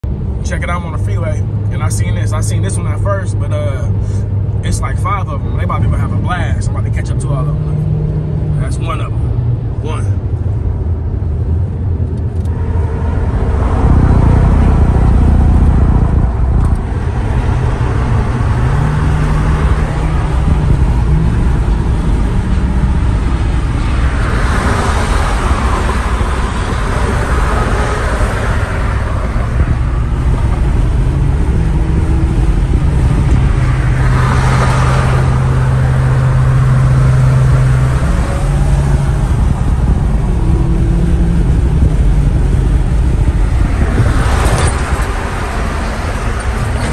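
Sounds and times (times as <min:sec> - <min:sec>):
engine and tyre drone: 0:00.0 - 0:46.9.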